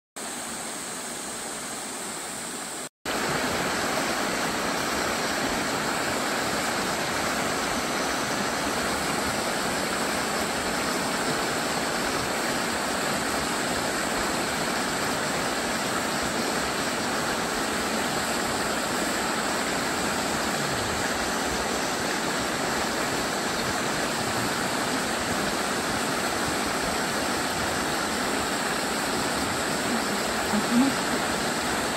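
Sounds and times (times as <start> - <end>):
stream water flowing: 0.2 - 31.9.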